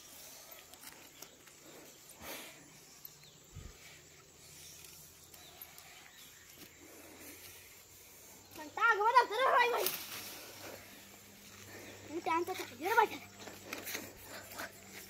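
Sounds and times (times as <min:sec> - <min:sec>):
faint rustle: 0:00.0 - 0:15.0.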